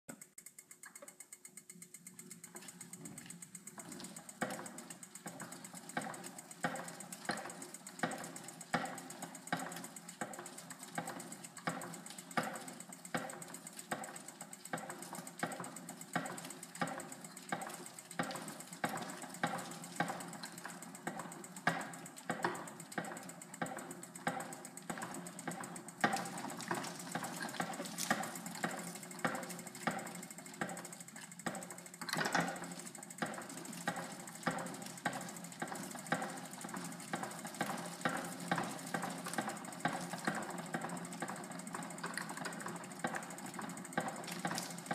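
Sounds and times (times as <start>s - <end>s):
bicycle wheel spinning hum: 0.1s - 44.9s
regular clicking: 0.1s - 44.9s.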